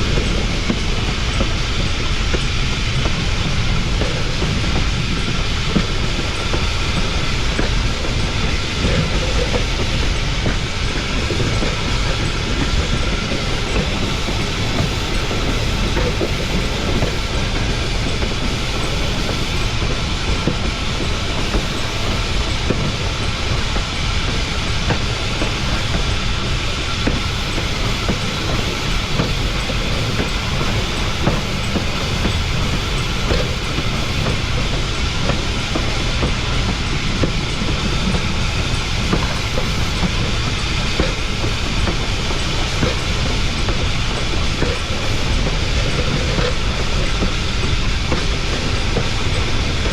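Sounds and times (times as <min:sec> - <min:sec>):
steam locomotive rolling: 0:00.0 - 0:49.9
wheels clattering on rails: 0:00.0 - 0:49.9.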